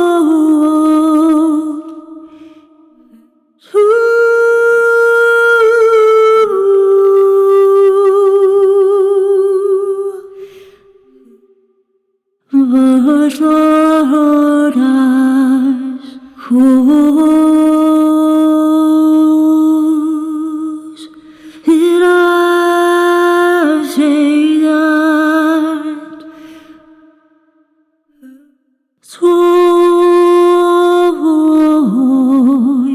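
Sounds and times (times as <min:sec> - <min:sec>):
wordless sung vocal: 0:00.0 - 0:32.9.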